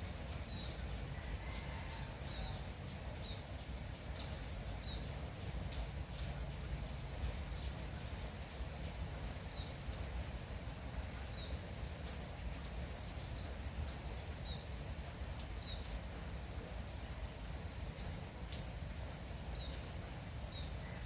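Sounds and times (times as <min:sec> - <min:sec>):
light rain: 0:00.0 - 0:21.0.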